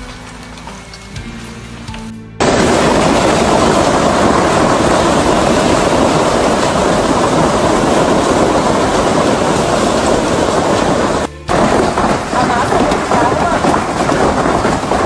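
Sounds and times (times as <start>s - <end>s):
hail and heavy rain pelting: 2.4s - 15.0s.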